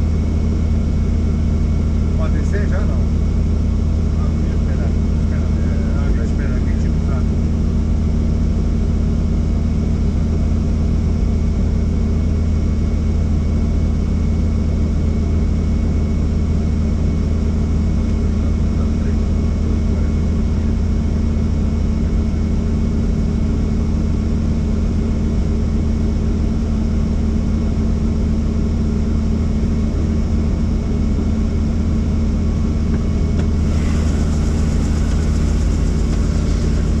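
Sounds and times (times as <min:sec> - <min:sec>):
helicopter engine and rotor drone: 0:00.0 - 0:37.0.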